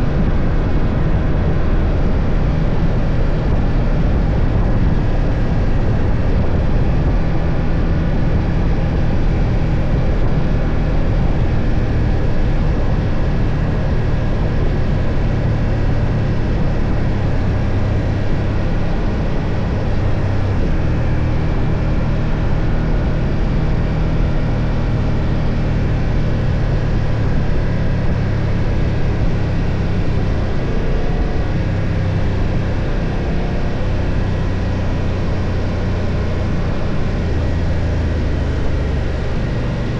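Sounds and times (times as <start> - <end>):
motorcycle engine cruising: 0.0 - 39.9
rush of riding noise: 0.0 - 39.9.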